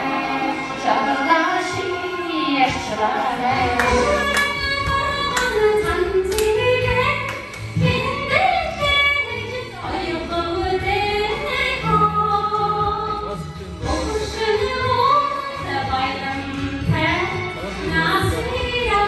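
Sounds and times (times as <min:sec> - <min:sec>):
woman singing into a microphone: 0:00.0 - 0:19.0.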